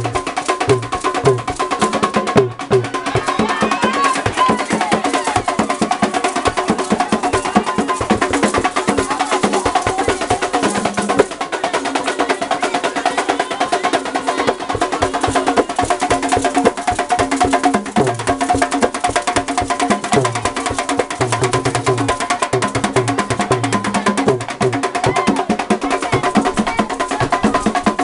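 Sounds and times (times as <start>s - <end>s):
drums: 0.0s - 28.0s
fast clicking percussion: 0.0s - 28.0s.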